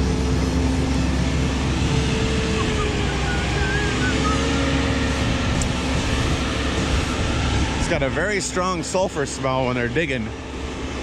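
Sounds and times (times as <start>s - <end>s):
drilling rig engine droning: 0.0s - 11.0s.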